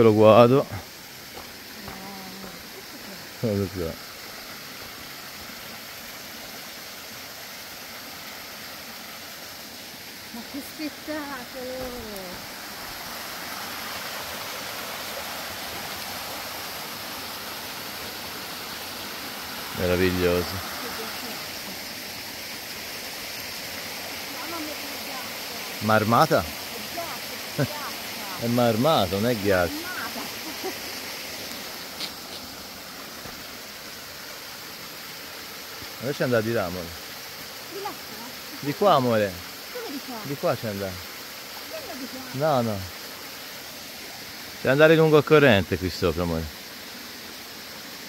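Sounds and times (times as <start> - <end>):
stream rushing over cascades: 0.0 - 48.0.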